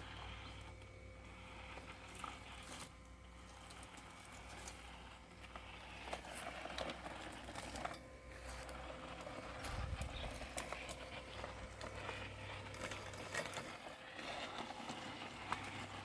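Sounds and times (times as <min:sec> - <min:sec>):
robotic lawn mower motor hum: 0:00.0 - 0:16.0.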